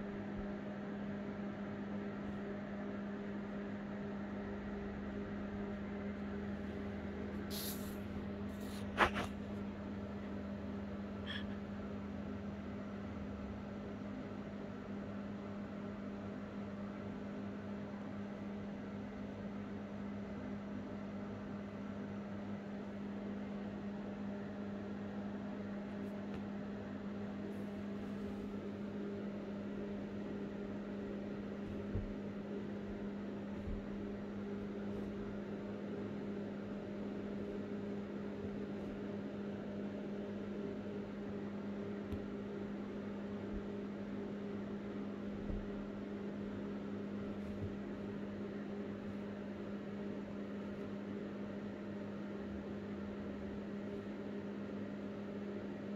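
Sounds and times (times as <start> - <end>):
electrical hum with hiss: 0.0 - 55.9.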